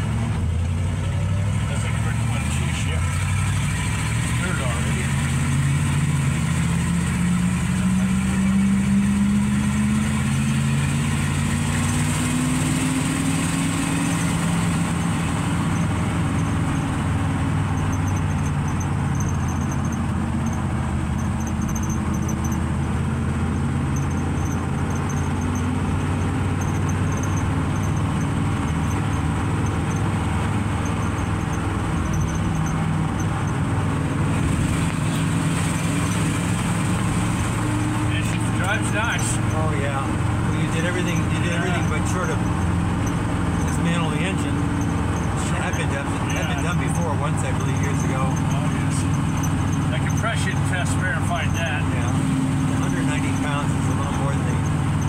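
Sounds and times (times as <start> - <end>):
truck engine accelerating and cruising: 0.0 - 55.0.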